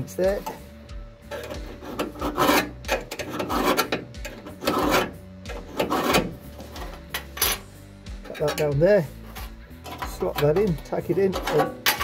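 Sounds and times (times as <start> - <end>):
steel scriber scratching metal: 0.4 - 12.0.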